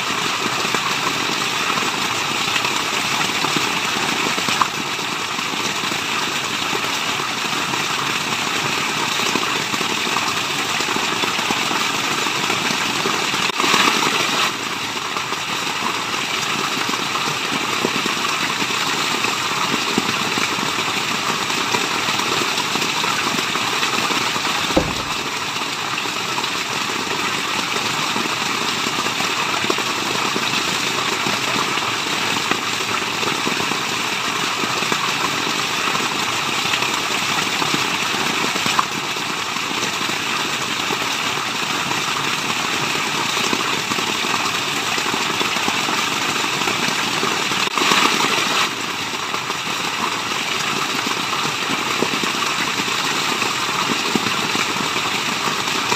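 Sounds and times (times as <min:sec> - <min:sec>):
falling water rushing: 0:00.0 - 0:55.9.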